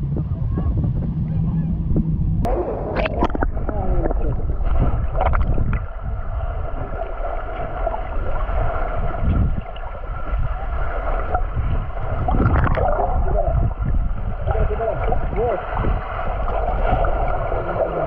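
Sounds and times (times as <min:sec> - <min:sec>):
faint hum: 0:00.0 - 0:18.0
underwater rumble and gurgle: 0:00.0 - 0:18.0.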